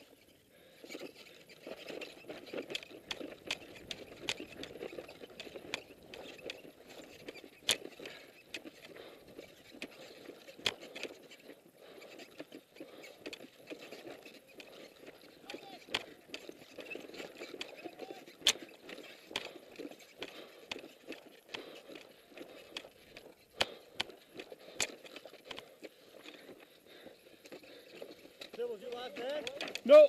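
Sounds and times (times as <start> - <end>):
equipment rattling: 0.0 - 30.0
footsteps on dry earth: 1.5 - 30.0.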